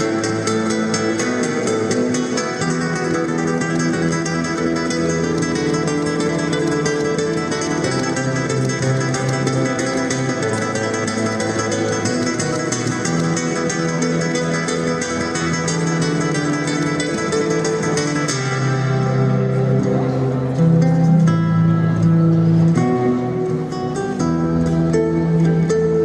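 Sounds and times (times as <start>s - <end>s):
flamenco acoustic guitar: 0.0s - 26.0s.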